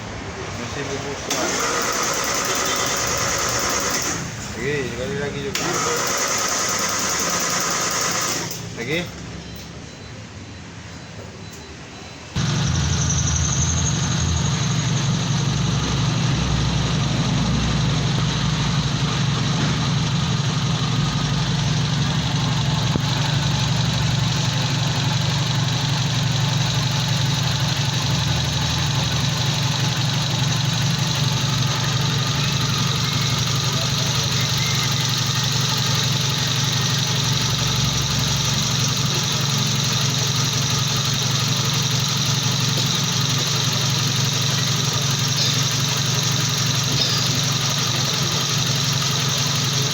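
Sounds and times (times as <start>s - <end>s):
car engine idling: 0.0s - 9.1s, 12.4s - 49.9s.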